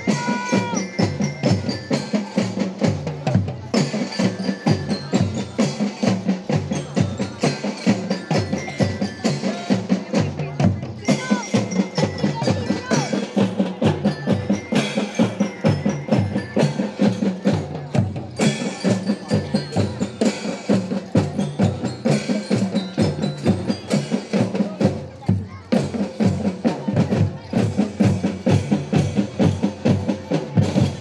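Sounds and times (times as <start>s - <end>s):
bell-like mallet percussion: 0.0s - 31.0s
snare and bass drums beating: 0.0s - 31.0s.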